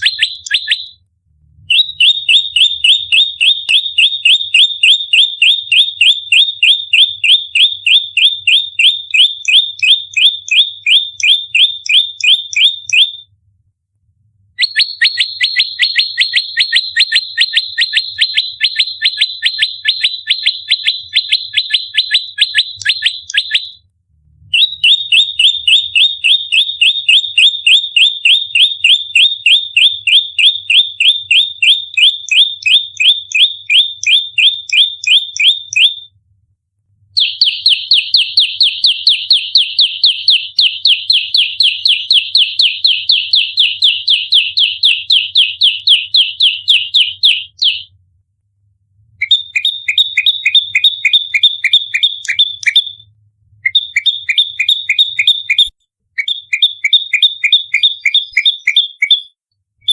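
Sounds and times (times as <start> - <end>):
bird rapid high chirps: 0.0 - 1.0, 1.7 - 13.2, 14.6 - 23.8, 24.5 - 36.0, 37.2 - 47.9, 49.2 - 53.0, 53.6 - 59.9.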